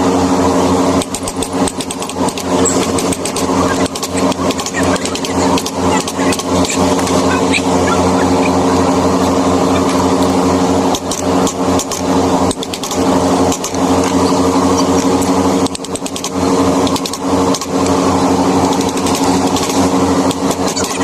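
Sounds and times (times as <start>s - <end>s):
small electric motor humming: 0.0s - 21.0s.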